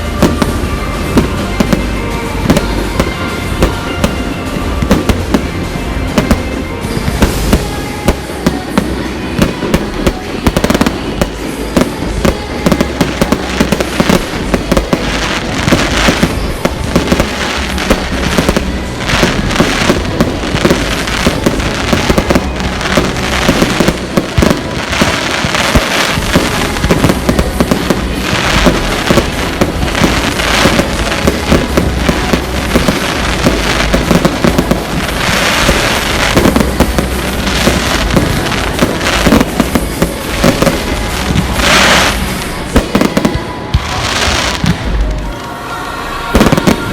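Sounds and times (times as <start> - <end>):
fireworks cracking and banging: 0.0 - 46.9.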